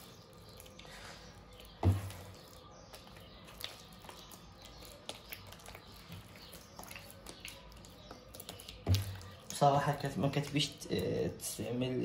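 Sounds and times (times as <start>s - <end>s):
wet dough squishing: 0.0s - 12.0s.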